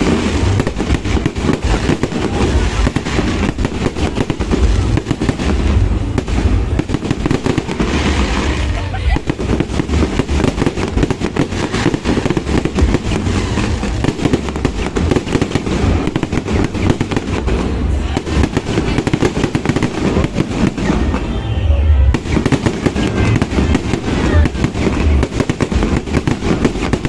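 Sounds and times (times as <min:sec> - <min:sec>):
deep fireworks booms: 0:00.0 - 0:27.0
fireworks cracks and crackling: 0:00.0 - 0:27.0.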